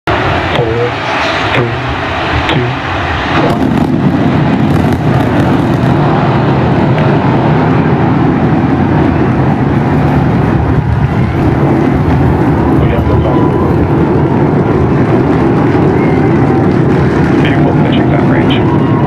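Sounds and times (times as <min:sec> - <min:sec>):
rocket engines rumbling: 0:00.0 - 0:19.0.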